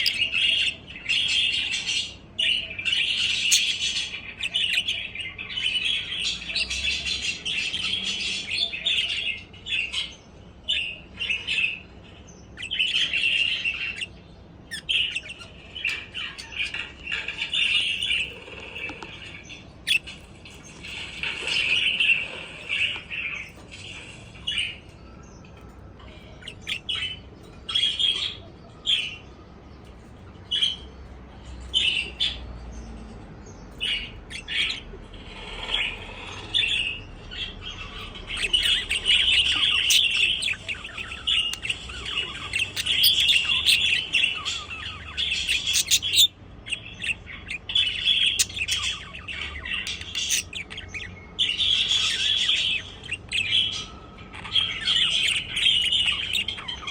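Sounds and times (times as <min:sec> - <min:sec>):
budgerigars chirping and chattering: 0:00.0 - 0:56.9.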